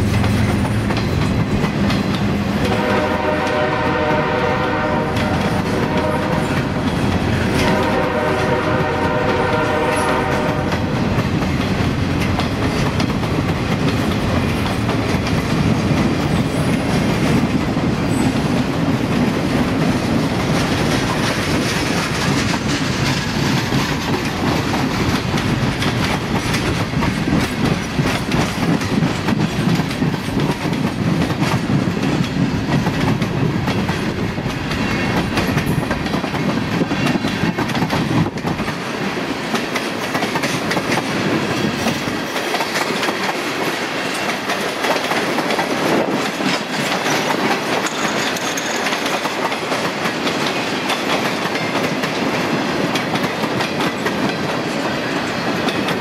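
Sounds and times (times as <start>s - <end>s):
freight train wheels rumbling: 0.0s - 56.0s
wheels clicking over rail joints: 9.6s - 56.0s.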